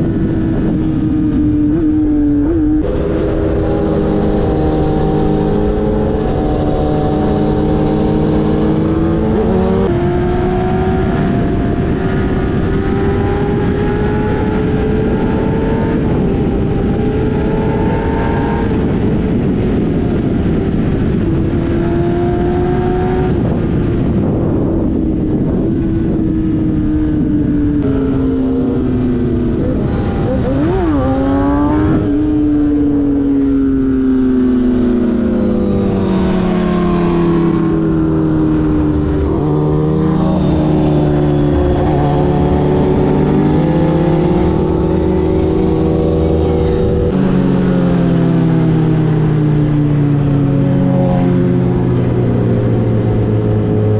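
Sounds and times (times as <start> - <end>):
motorcycle engine running: 0.0 - 53.9
wind noise: 0.0 - 53.9.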